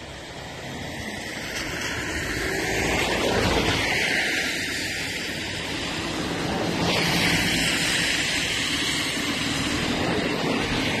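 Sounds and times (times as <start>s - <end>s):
flooded river rushing: 0.0s - 11.0s.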